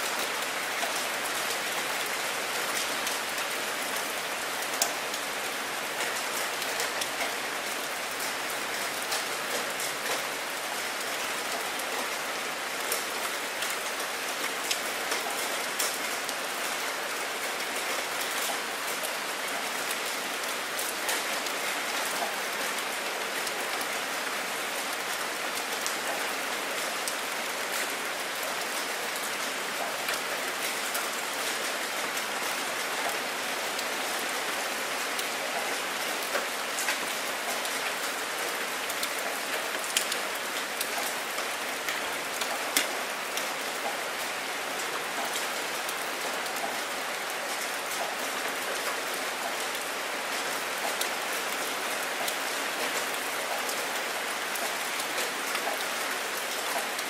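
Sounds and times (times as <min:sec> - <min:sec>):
rain falling on water: 0:00.0 - 0:57.0.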